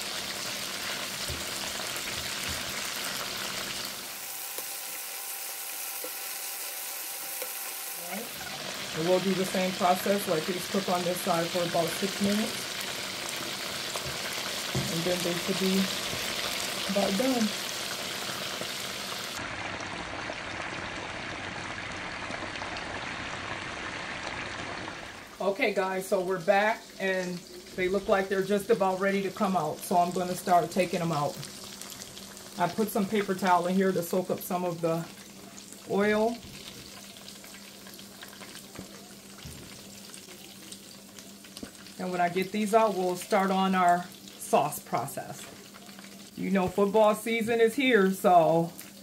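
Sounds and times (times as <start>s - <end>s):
chicken wings frying in oil: 0.0s - 49.0s.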